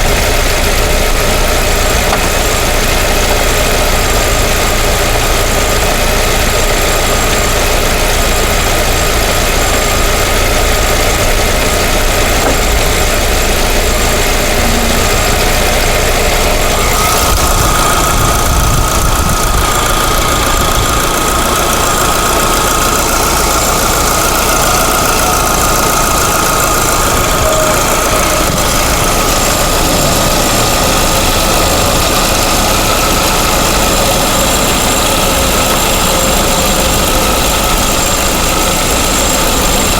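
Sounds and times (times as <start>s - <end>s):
car engine idling: 0.0s - 39.9s
thin high engine whine: 0.0s - 39.9s.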